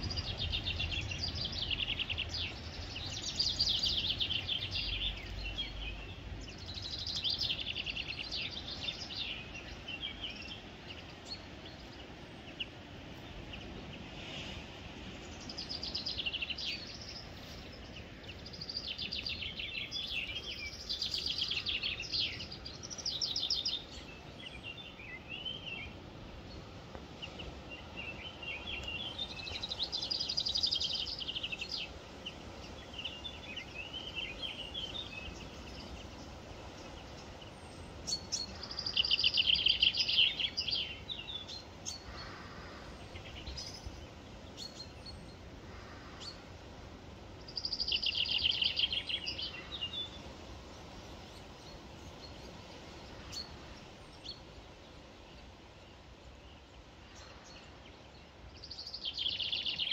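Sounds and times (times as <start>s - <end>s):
faint background hiss: 0.0s - 59.9s.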